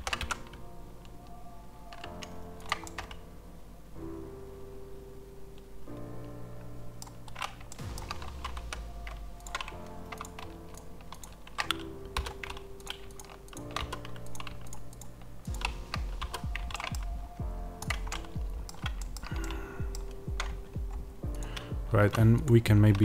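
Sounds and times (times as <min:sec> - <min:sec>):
keyboard keys clicking: 0:00.0 - 0:03.3, 0:05.5 - 0:23.0
soft background music: 0:00.0 - 0:23.0.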